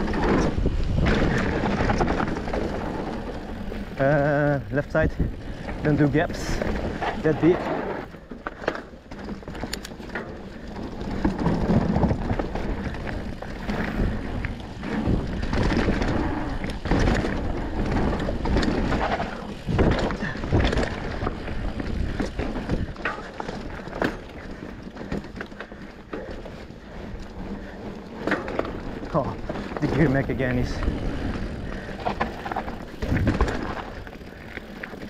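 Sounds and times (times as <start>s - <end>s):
bike rattling: 0.0s - 35.0s
bike tyres rolling on dirt: 0.0s - 35.0s.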